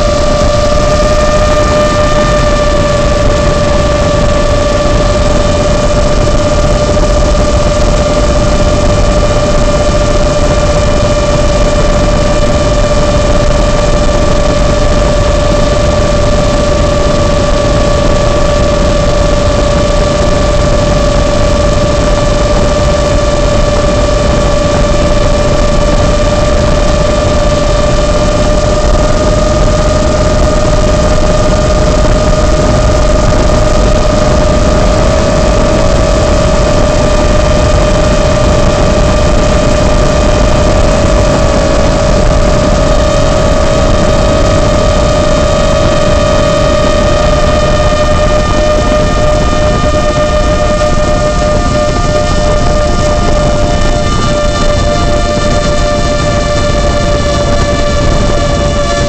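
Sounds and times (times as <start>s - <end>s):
quadcopter motors whining: 0.0s - 59.0s.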